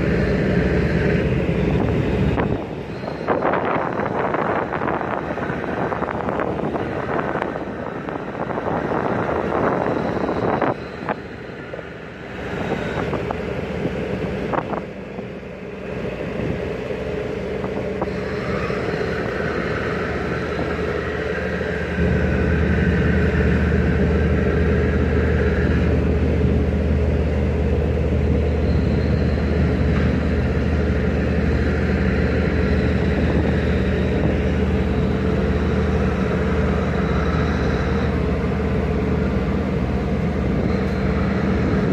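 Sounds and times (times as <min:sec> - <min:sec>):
deep engine hum: 0:00.0 - 0:41.9
diesel engine running: 0:00.0 - 0:41.9
rushing noise: 0:00.0 - 0:41.9.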